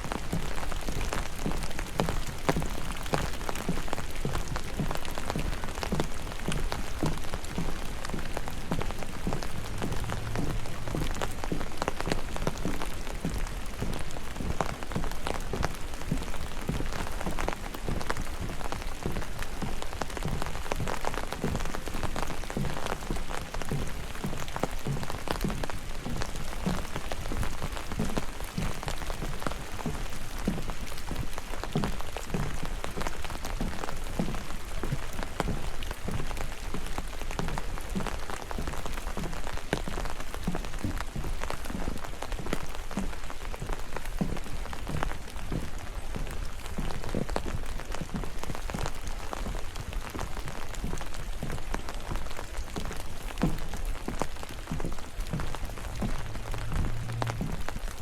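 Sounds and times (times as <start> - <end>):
rain pattering in forest: 0.0 - 58.0.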